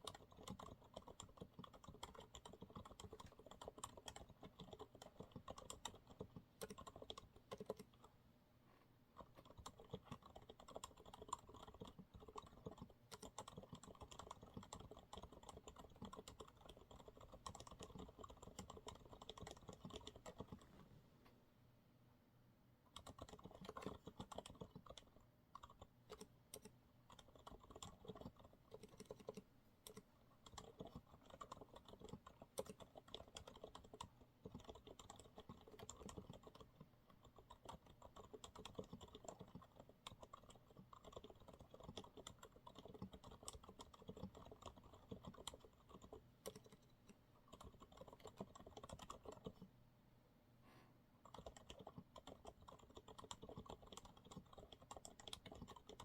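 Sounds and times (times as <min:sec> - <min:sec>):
soft keyboard typing: 0:00.0 - 0:08.2, 0:09.1 - 0:20.8, 0:22.9 - 0:49.8, 0:51.2 - 0:56.0.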